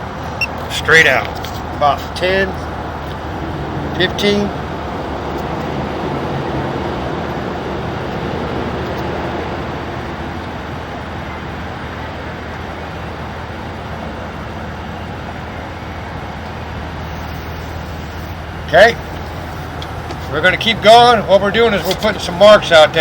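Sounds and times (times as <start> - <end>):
low engine hum: 0.0 - 23.0
road traffic noise: 0.0 - 23.0.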